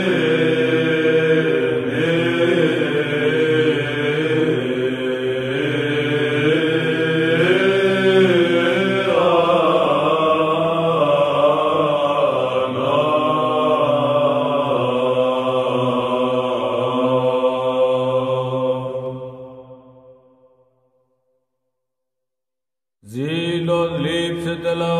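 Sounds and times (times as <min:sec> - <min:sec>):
choir chanting over drone: 0:00.0 - 0:20.6, 0:23.1 - 0:24.9.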